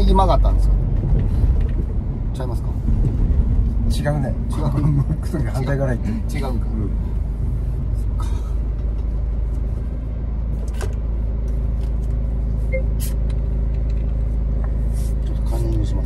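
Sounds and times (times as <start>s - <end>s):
car cabin engine and road rumble: 0.0s - 16.0s.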